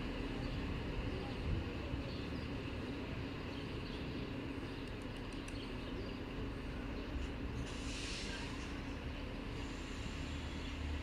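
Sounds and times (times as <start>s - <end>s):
diesel railcar idling: 0.0s - 11.0s.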